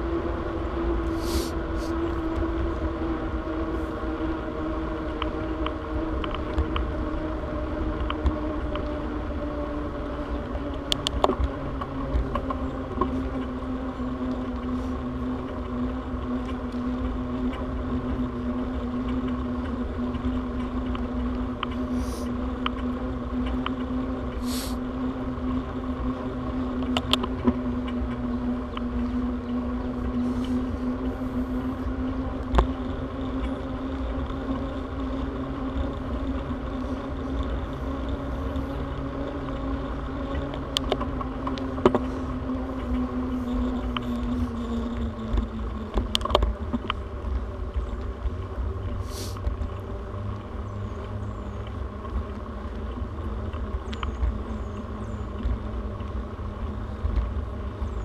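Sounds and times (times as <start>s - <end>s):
bicycle rolling on asphalt: 0.0s - 58.0s
wind rumble on microphone: 0.0s - 58.0s.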